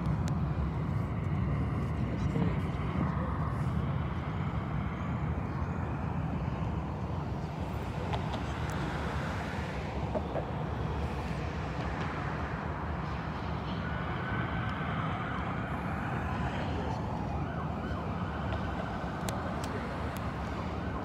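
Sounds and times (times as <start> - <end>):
low street traffic rumble: 0.0 - 21.0.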